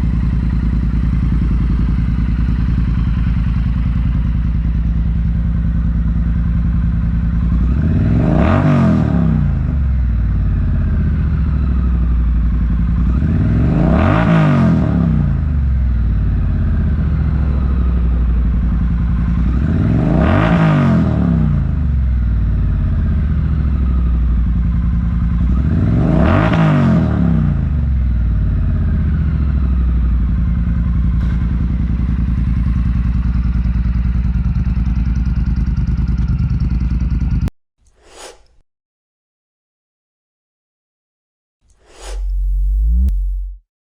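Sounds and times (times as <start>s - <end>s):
motorcycle engine idling and revving: 0.0s - 37.5s, 42.0s - 43.6s.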